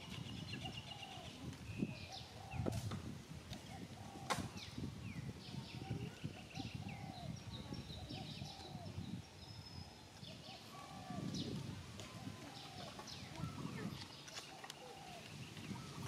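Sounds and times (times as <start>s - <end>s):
birds chirping: 0.0s - 2.8s, 3.7s - 16.0s.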